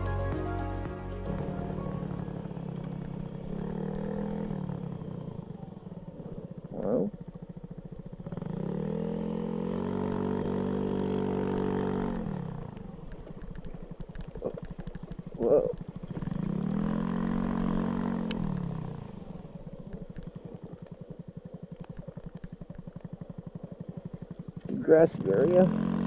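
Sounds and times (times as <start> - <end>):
scooter engine revving: 1.3 - 26.0.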